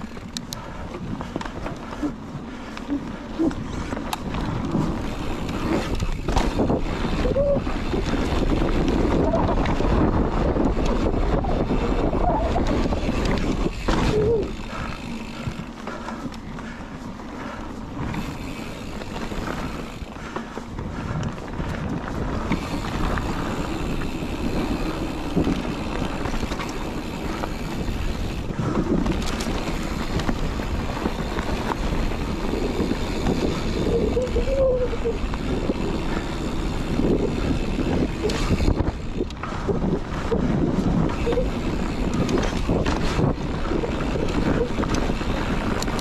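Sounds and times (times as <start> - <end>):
bike tyres and rattling: 0.0 - 46.0
wind rushing over microphone: 3.4 - 16.7, 17.9 - 46.0.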